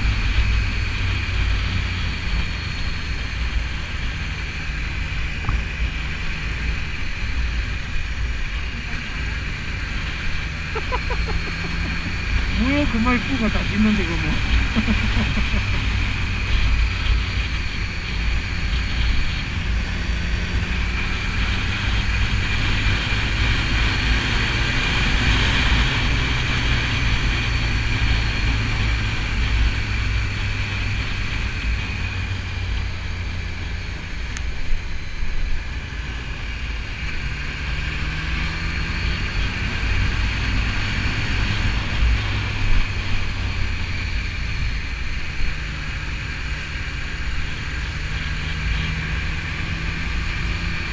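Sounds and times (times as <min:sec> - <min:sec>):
motorcycle engine accelerating: 0:00.0 - 0:50.9
wind rumble on microphone: 0:00.0 - 0:50.9.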